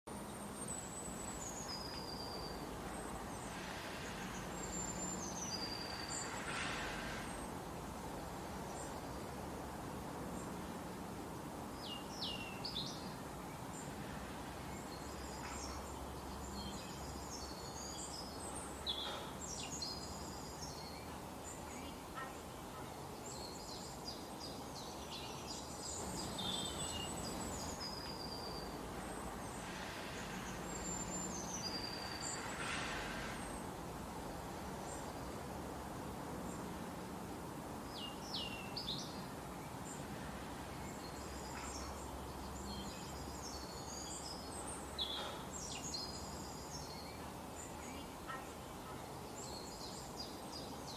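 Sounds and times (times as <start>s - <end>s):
small birds chirping: 0.1s - 9.4s, 11.7s - 33.8s, 37.8s - 50.9s
steady background hiss: 0.1s - 50.9s.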